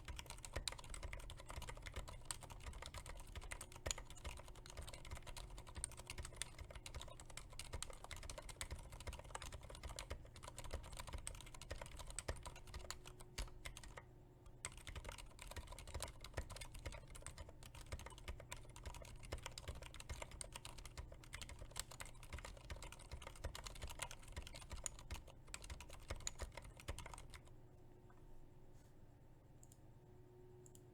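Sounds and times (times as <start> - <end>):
fast typing on mechanical keyboard: 0.0 - 14.0, 14.6 - 27.5.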